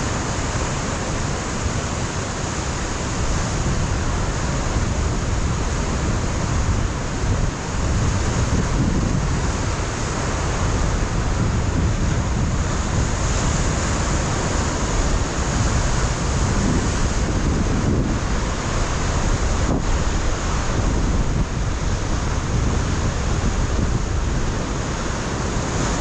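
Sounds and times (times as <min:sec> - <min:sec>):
surf breaking on rocky coast: 0:00.0 - 0:26.0
wind buffeting microphone: 0:00.0 - 0:26.0.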